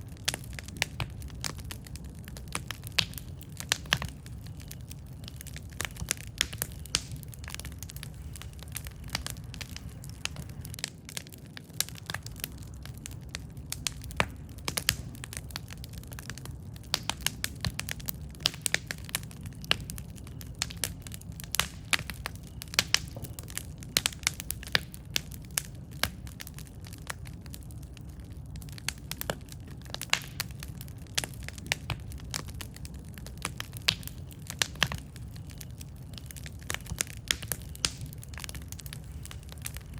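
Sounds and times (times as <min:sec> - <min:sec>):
low rumble of flame: 0:00.0 - 0:39.9
wood crackling and popping: 0:00.0 - 0:39.9.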